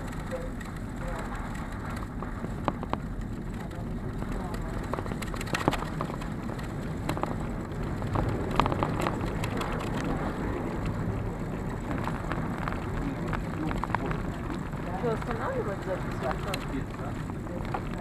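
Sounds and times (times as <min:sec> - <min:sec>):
cable car rumbling: 0:00.0 - 0:18.0
light clicks and rattles: 0:00.0 - 0:18.0.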